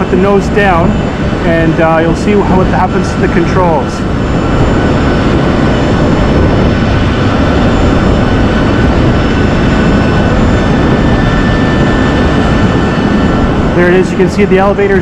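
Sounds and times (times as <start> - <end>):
high turbine whine: 0.0 - 15.0
jet turbine running: 0.0 - 15.0.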